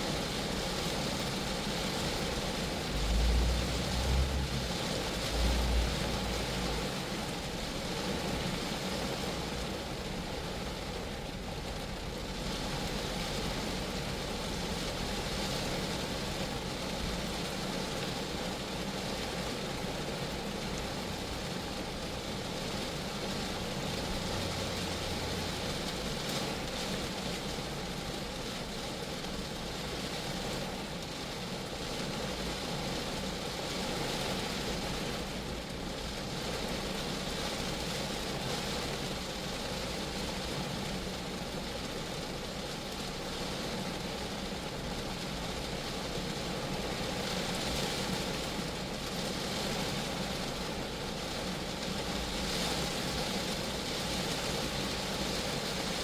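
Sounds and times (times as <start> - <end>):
rain on a car body: 0.0 - 56.0.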